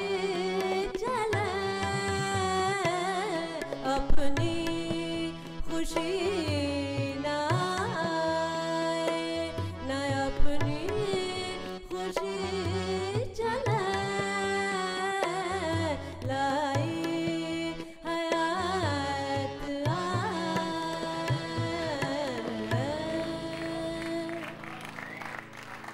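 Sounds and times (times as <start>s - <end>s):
woman singing: 0.0s - 24.7s
tabla: 0.0s - 25.9s.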